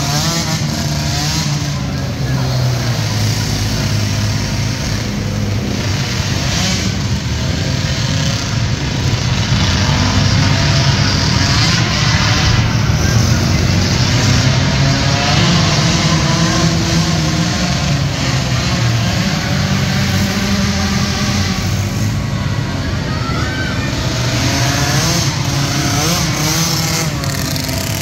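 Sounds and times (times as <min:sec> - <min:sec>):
atv engines revving: 0:00.0 - 0:28.0.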